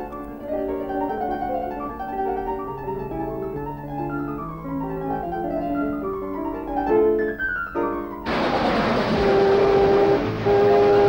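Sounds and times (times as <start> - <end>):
light piano cartoon music: 0.0 - 11.0.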